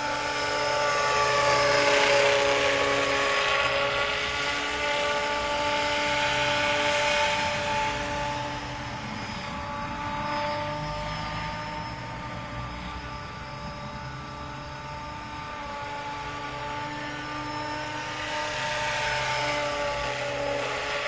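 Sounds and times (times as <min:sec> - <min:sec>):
model helicopter whine and rotor noise: 0:00.0 - 0:21.0.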